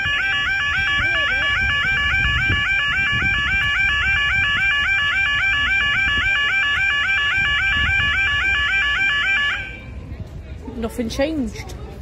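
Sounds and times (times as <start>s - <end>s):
electronic yodel alarm: 0.0s - 9.8s
lower-pitched alarm: 0.0s - 9.9s.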